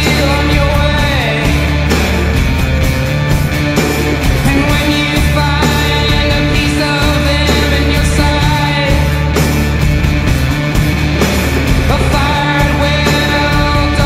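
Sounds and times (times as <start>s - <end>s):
rock music with singing: 0.0s - 14.0s.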